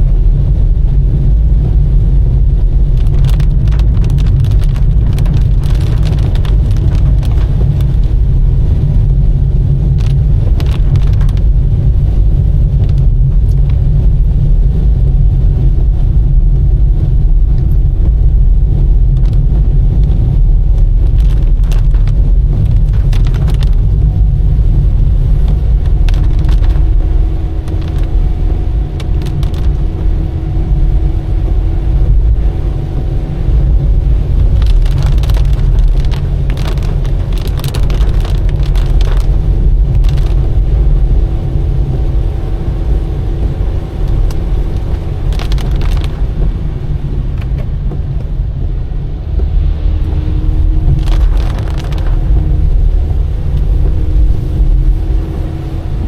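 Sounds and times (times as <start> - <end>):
car driving on wet road: 0.0 - 56.0.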